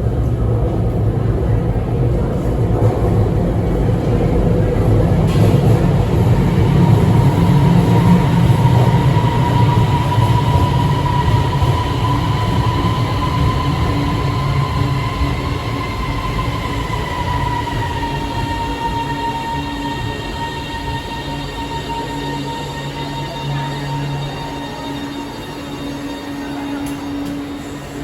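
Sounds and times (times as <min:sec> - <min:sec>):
metro train rumble and electric whine: 0:00.0 - 0:28.0.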